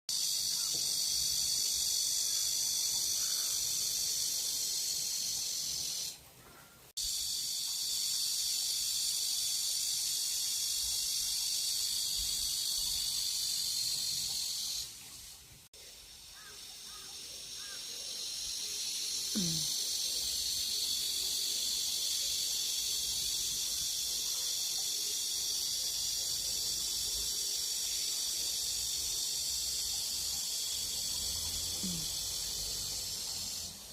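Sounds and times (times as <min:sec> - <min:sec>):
cicadas buzzing: 0:00.1 - 0:33.9.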